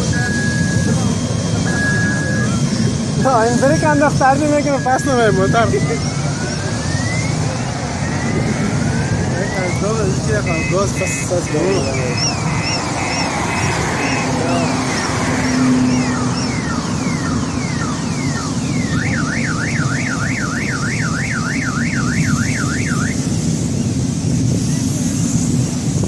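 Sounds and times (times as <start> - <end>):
car alarm: 0.0 - 8.7, 9.3 - 23.3
road noise rumble: 0.0 - 26.0.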